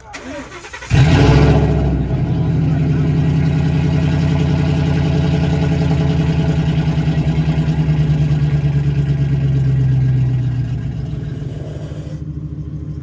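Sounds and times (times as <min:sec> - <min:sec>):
vehicle engine running loudly: 0:00.9 - 0:13.0.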